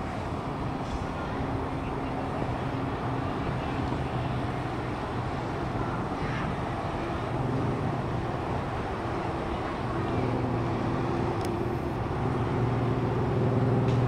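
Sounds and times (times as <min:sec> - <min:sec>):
distant traffic rumble: 0:00.0 - 0:14.0
low engine hum: 0:00.0 - 0:14.0.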